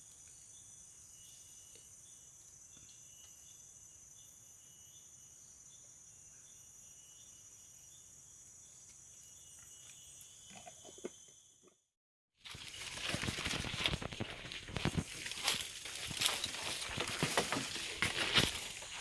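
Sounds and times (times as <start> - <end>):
insect chorus trilling: 0.0 - 11.6, 12.5 - 19.0.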